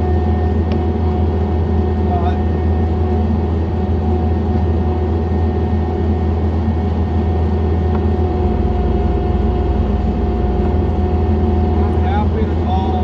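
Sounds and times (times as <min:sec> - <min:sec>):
diesel engine low drone: 0:00.0 - 0:13.0
thin steady engine whine: 0:00.0 - 0:13.0.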